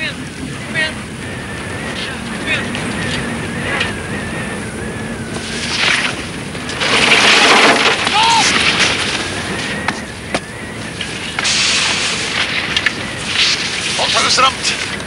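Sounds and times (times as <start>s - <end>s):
strong blizzard wind: 0.0s - 15.0s.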